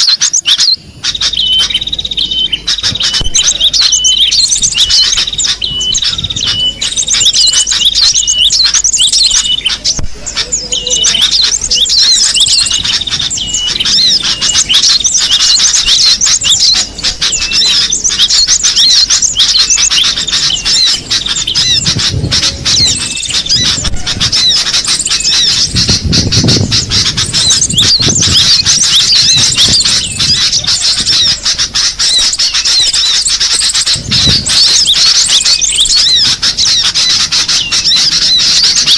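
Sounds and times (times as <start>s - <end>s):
birds chirping and chattering: 0.0s - 38.9s.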